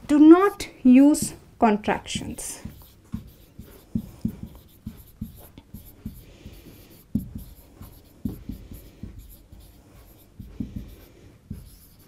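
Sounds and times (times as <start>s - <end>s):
marker writing on a whiteboard: 1.1s - 12.0s.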